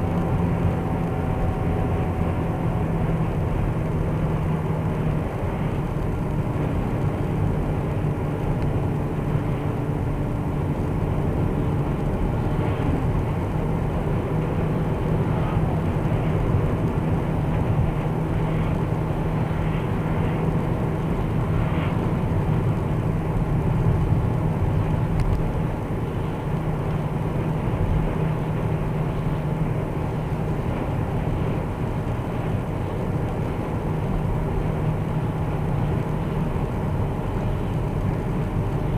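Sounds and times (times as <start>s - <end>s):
road noise: 0.0s - 38.9s
steady droning hum: 0.0s - 38.9s.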